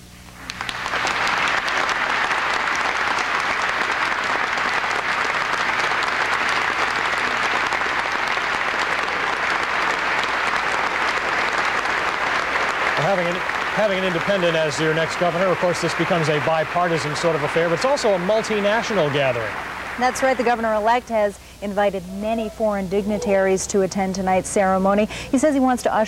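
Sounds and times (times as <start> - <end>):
crowd applauding: 0.4 - 21.4.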